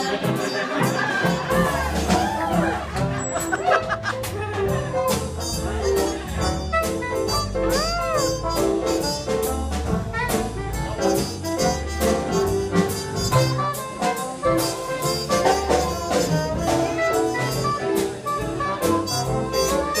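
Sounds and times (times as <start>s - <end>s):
saxophone: 0.0s - 2.4s, 4.6s - 20.0s
live jazz band playing: 0.0s - 20.0s
steady drum beat: 0.0s - 20.0s.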